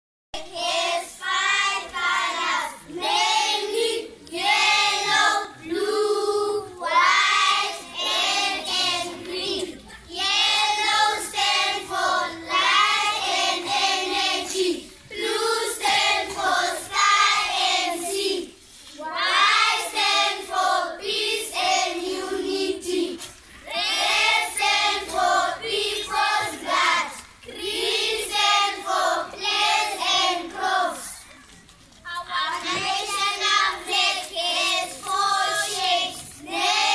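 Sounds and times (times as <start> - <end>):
children singing together: 0.4 - 31.2, 32.3 - 36.9.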